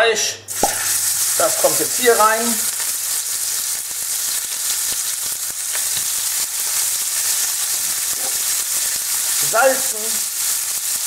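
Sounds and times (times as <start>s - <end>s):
meat sizzling in a pan: 0.5s - 11.0s.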